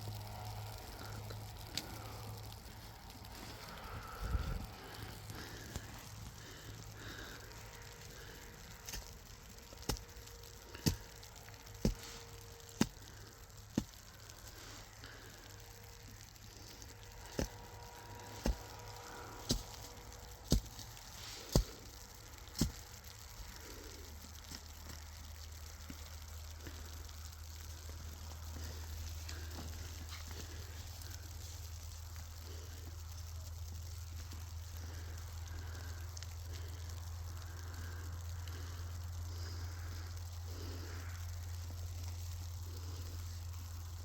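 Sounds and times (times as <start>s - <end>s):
faint steady hiss: 0.0s - 44.0s.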